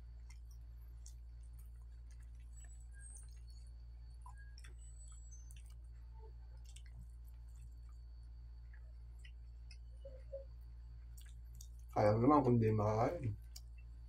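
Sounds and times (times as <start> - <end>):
soft chewing: 0.0 - 12.0, 13.4 - 14.0
steady low hum: 0.0 - 14.0.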